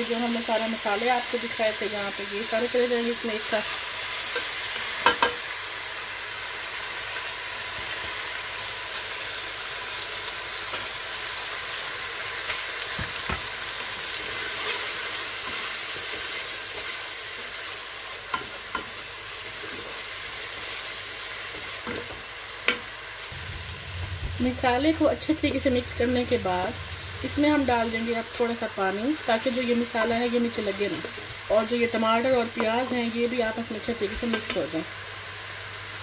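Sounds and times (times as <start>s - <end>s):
masala sizzling in hot oil: 0.0s - 36.0s.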